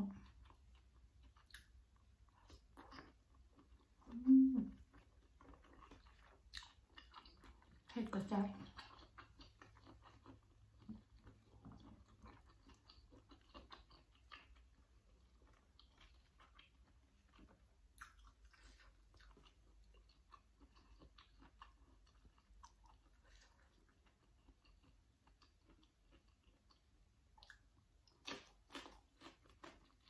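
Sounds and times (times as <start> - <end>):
chewing and crunching vegetables: 0.0 - 30.0.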